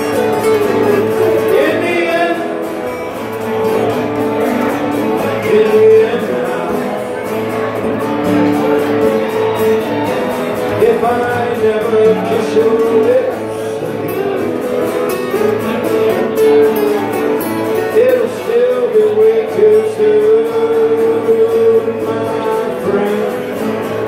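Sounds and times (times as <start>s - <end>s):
acoustic guitar strummed: 0.0s - 24.0s
man singing: 0.0s - 24.0s.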